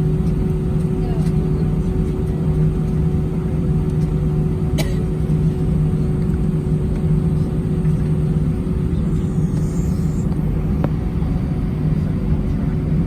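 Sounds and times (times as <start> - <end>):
airplane cabin engine drone: 0.0 - 13.0.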